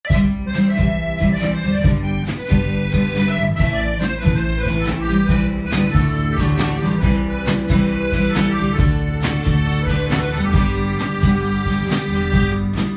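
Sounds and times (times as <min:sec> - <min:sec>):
band music with steady beat: 0:00.0 - 0:12.9.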